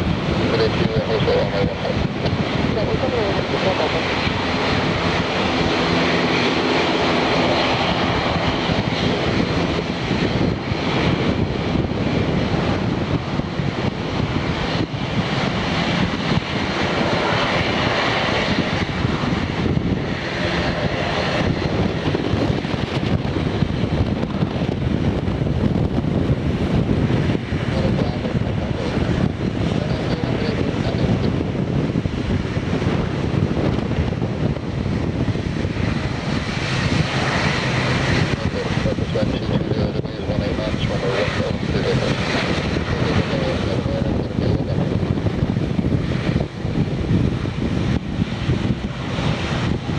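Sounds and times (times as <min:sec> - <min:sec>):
jet engines running: 0:00.0 - 0:49.9.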